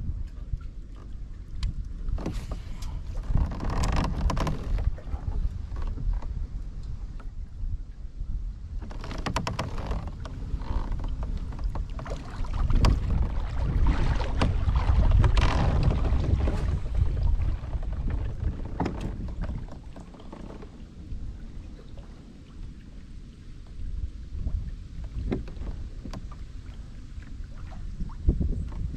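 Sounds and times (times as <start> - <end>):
water lapping against hull: 0.0 - 28.9
wind buffeting microphone: 0.0 - 28.9.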